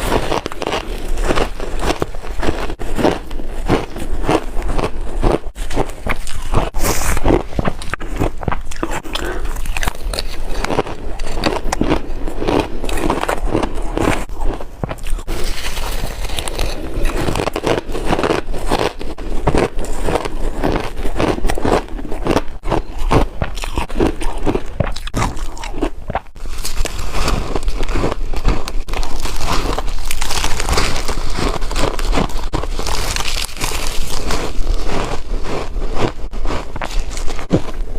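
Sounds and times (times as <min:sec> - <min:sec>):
ice crunching being bitten: 0:00.0 - 0:37.9.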